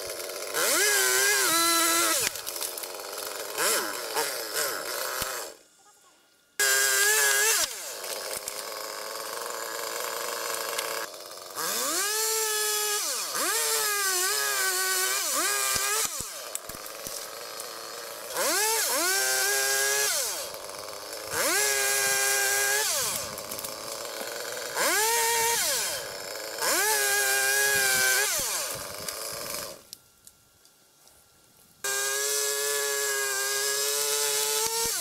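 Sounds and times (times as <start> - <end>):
chainsaw revving: 0.0 - 5.6, 6.6 - 29.9, 31.8 - 35.0.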